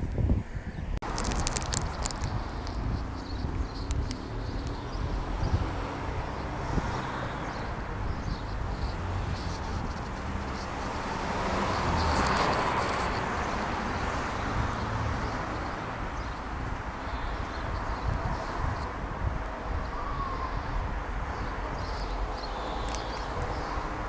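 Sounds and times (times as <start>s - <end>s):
microphone handling rumble: 0.0s - 22.0s
street noise: 0.0s - 24.0s.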